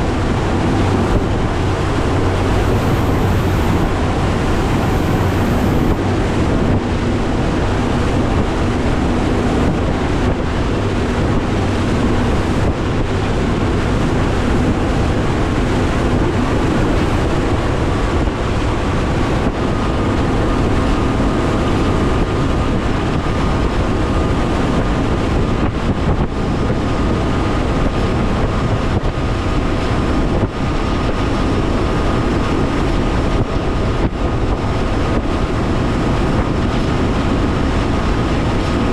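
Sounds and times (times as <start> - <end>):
hull slapping waves: 0.0 - 38.9
outboard motor running: 0.0 - 38.9
wind rushing over microphone: 0.0 - 38.9.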